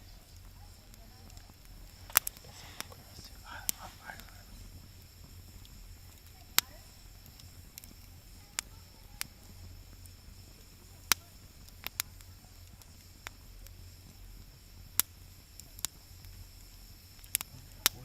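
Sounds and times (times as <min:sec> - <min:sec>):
low hum: 0:00.0 - 0:18.0
wood fire crackling: 0:00.0 - 0:18.0.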